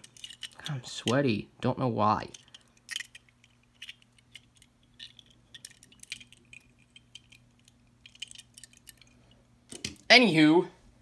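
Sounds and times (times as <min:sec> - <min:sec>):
metal toy cars clicking: 0:00.0 - 0:01.2, 0:02.2 - 0:09.9.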